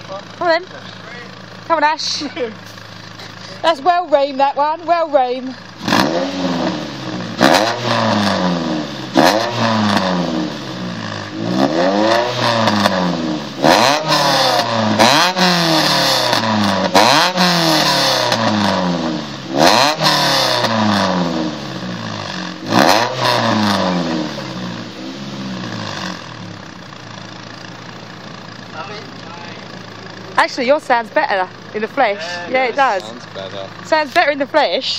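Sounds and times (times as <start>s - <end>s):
car engine revving: 0.0s - 34.9s
exhaust crack: 0.0s - 34.9s.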